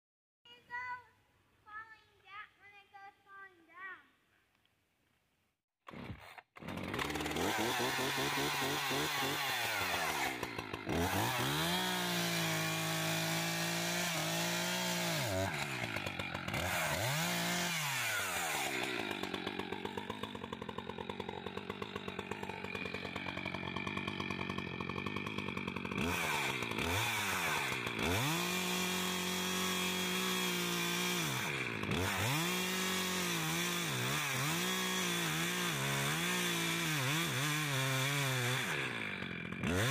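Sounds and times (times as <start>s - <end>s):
chainsaw revving and cutting: 5.8s - 39.9s.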